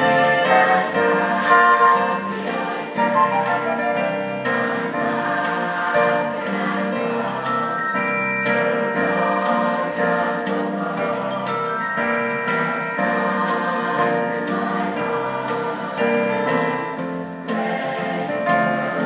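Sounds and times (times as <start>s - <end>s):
choir singing in harmony: 0.0s - 19.0s.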